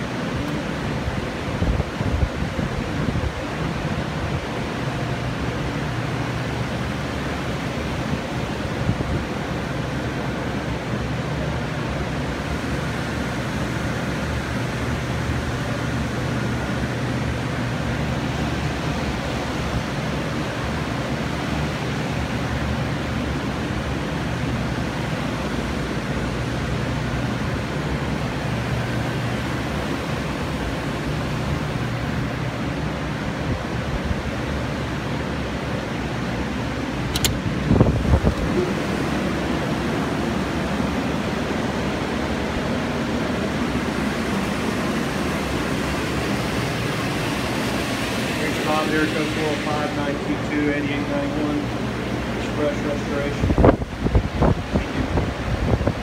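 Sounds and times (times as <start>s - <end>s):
air movers blowing air: 0.0s - 56.0s.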